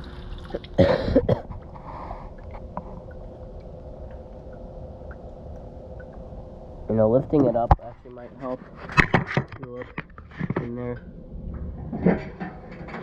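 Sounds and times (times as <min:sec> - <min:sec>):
faint constant tone: 0:00.0 - 0:13.0
low mechanical hum: 0:00.0 - 0:13.0.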